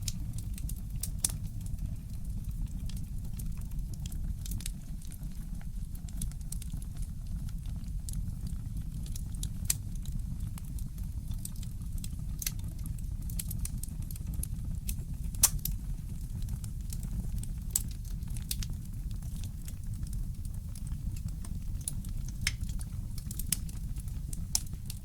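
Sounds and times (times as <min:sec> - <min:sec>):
fire pops and snaps: 0:00.0 - 0:05.3, 0:05.9 - 0:25.0
wood fire crackling: 0:00.0 - 0:25.0.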